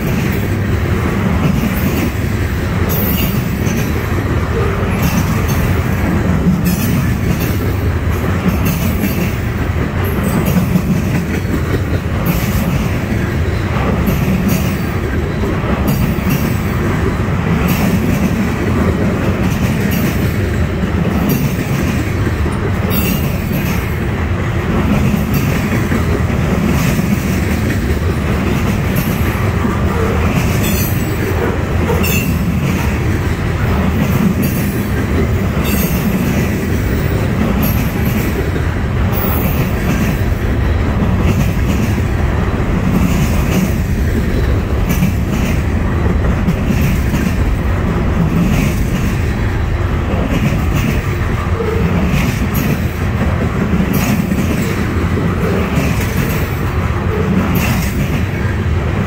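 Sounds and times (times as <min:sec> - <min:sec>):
rail clicks: 0:00.0 - 0:59.0
train wheels rumbling on rail: 0:00.0 - 0:59.0.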